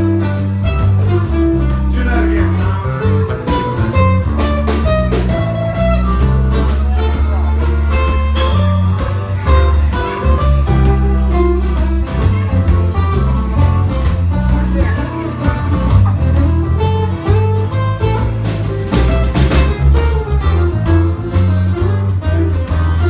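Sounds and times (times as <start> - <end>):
drum kit beat: 0.0 - 23.0
electric bass: 0.0 - 23.0
strummed acoustic guitars: 0.0 - 23.0.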